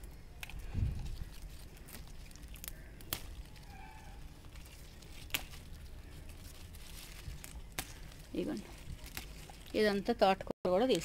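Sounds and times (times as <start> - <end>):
stems snapping: 0.0 - 10.2
leaves rustling: 0.0 - 11.0.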